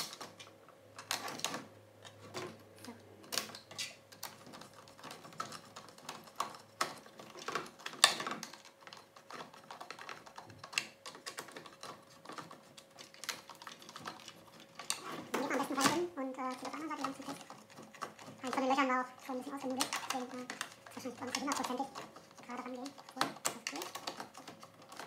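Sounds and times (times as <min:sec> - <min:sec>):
plastic parts clicking and tapping: 0:00.0 - 0:25.0.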